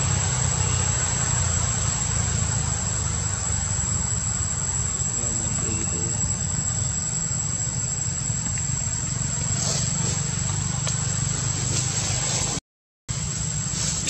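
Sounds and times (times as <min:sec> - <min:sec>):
insects whining: 0:00.0 - 0:14.0.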